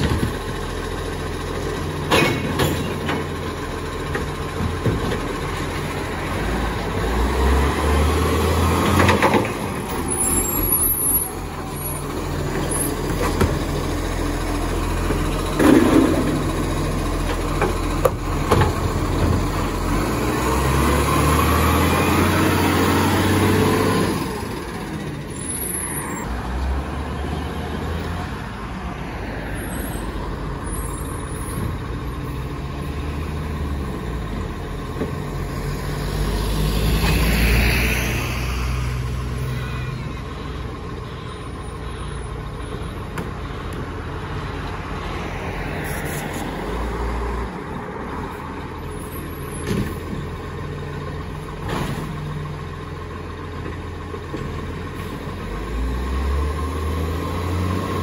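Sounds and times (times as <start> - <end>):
truck diesel engine running: 0.0 - 37.4, 38.2 - 58.0.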